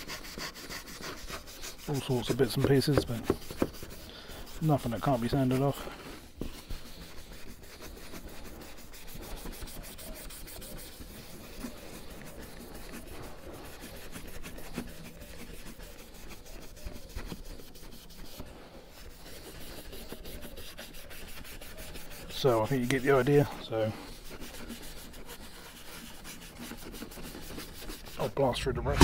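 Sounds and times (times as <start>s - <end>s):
scouring pad rubbing on trim: 0.0s - 29.0s.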